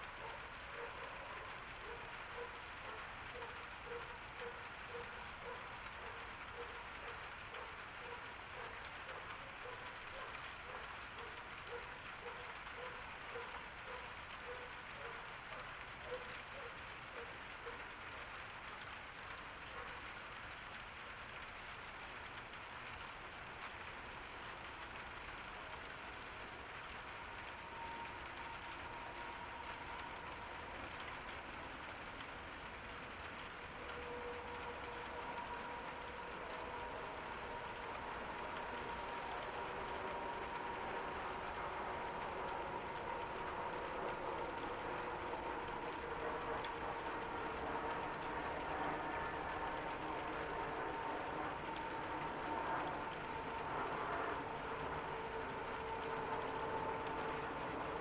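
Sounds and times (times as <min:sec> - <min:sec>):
rain falling on a garden: 0:00.0 - 0:58.0.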